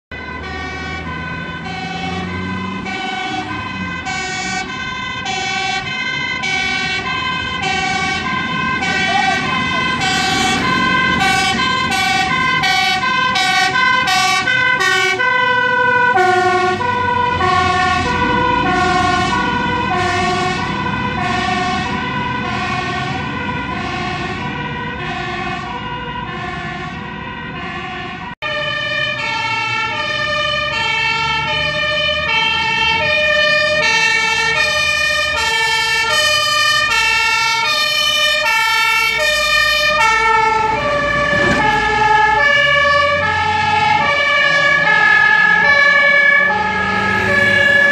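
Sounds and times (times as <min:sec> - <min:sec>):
two-tone fire engine sirens: 0:00.1 - 0:47.9.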